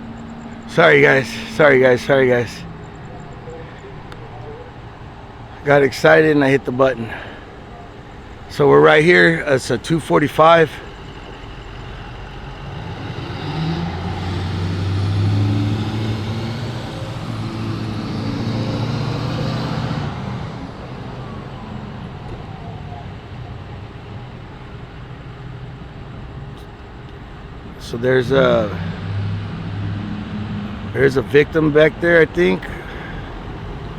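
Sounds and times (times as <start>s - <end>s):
low street hum: 0.0s - 33.9s
vehicle passing on road: 0.0s - 33.9s.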